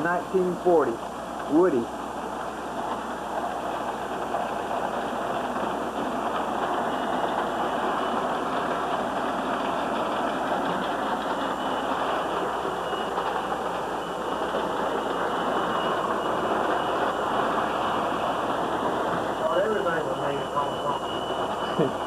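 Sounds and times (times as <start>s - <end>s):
model train rumbling on track: 0.0s - 22.0s.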